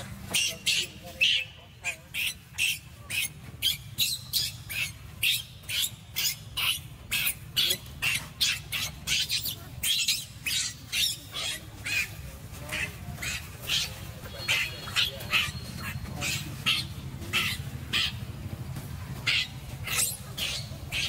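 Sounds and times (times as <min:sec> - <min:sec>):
baby monkey squealing: 0:00.0 - 0:18.3, 0:19.2 - 0:21.0.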